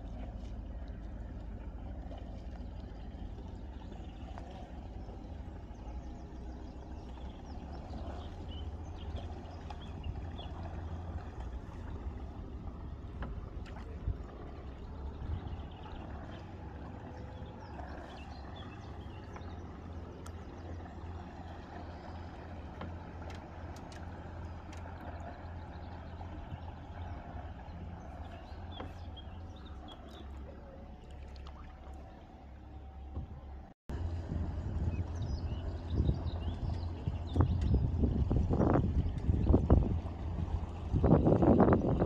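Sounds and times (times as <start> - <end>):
low rumble: 0.0 - 42.0
water lapping: 0.0 - 42.0.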